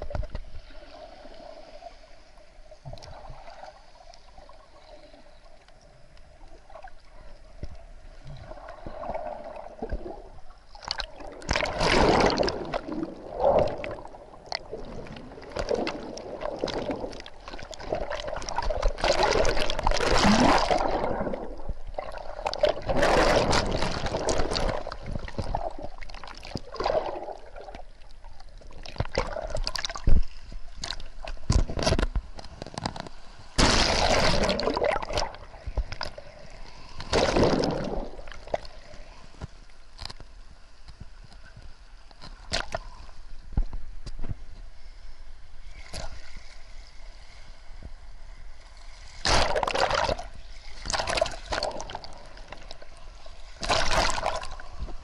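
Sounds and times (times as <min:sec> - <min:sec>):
underwater surf rushing and bubbling: 0:00.0 - 0:39.6, 0:45.7 - 0:55.0.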